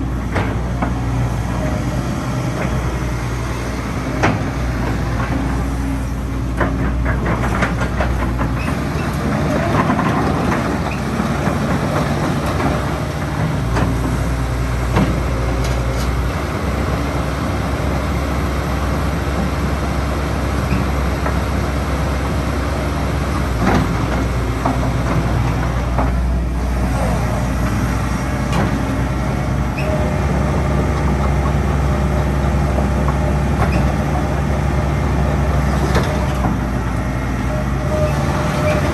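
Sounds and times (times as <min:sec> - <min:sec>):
excavator diesel engine drone: 0:00.0 - 0:38.9.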